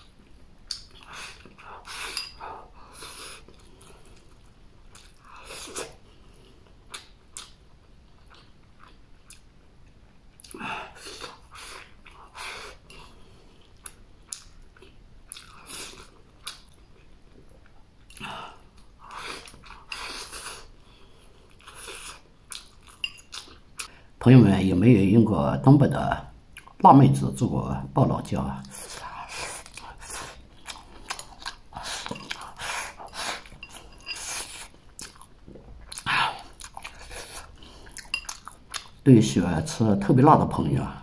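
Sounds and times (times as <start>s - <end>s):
person chewing crunchy food: 0.0s - 24.0s, 28.7s - 39.0s.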